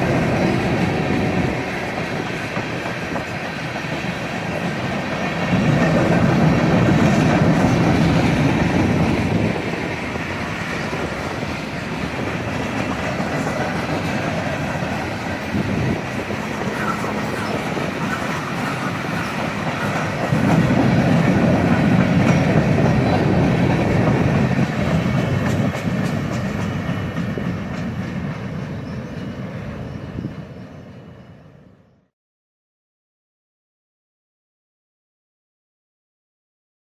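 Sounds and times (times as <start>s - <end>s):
train rumbling past on rails: 0.0s - 32.1s.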